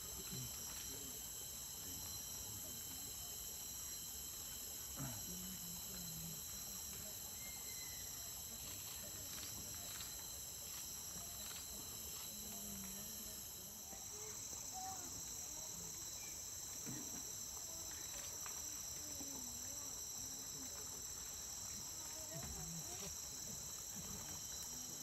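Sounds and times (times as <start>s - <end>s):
insect chorus: 0.0s - 25.0s
faint low voices murmuring: 4.9s - 25.0s.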